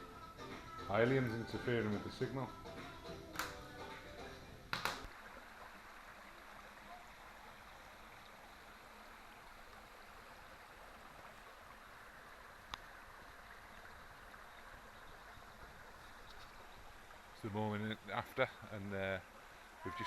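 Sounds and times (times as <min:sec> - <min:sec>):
faint steady rushing noise: 0:00.0 - 0:20.0.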